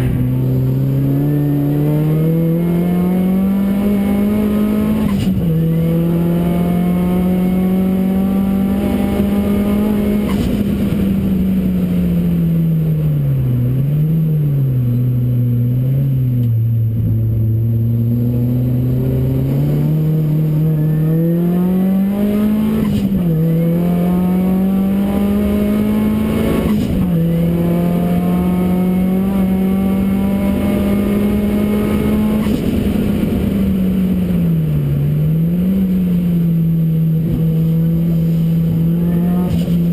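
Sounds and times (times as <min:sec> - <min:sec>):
racing car engine revving: 0:00.0 - 0:12.5, 0:13.5 - 0:39.9.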